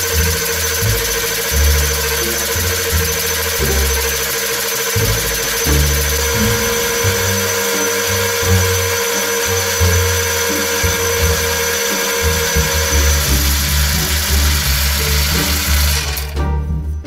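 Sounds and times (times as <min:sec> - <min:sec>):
metal lathe whine: 0:00.0 - 0:16.4
background music with bass: 0:00.0 - 0:17.0.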